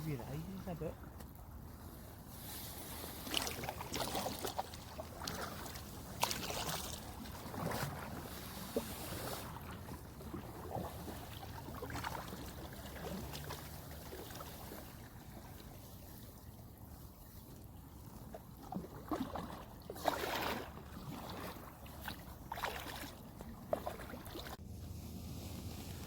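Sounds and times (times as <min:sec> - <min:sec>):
water splashing around kayak: 0:00.0 - 0:26.0.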